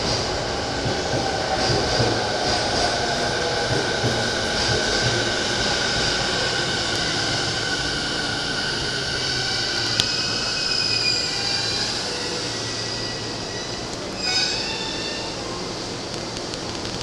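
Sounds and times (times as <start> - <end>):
electric train humming: 0.0 - 16.9.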